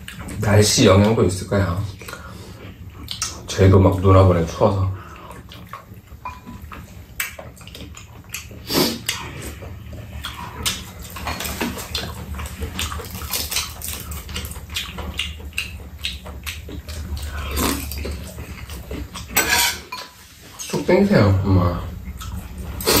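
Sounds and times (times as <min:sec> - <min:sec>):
steady low hum: 0:00.0 - 0:23.0
wet chewing and slurping: 0:01.9 - 0:21.0, 0:21.6 - 0:23.0.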